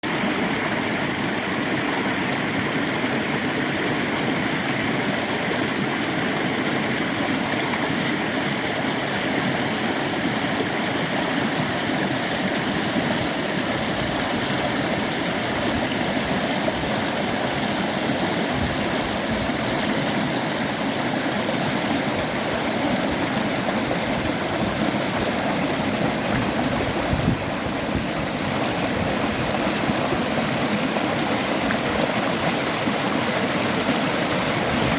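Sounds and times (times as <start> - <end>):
stream water flowing over rocks: 0.0 - 34.9.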